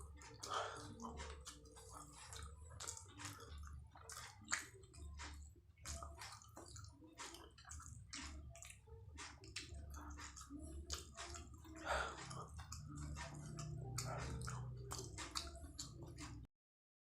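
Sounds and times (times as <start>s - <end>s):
close chewing with wet mouth smacks: 0.0s - 16.5s.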